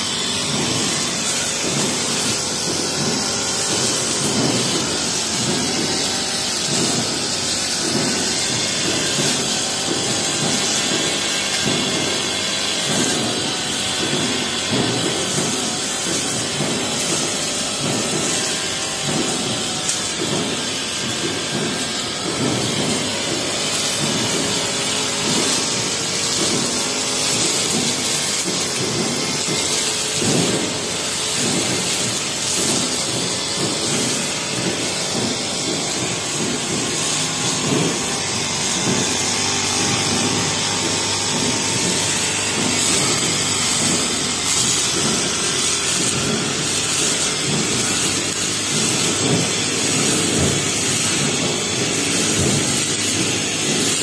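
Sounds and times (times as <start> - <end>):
blade ticking and knocking: 0.0 - 54.0
brush cutter cutting grass: 0.0 - 54.0.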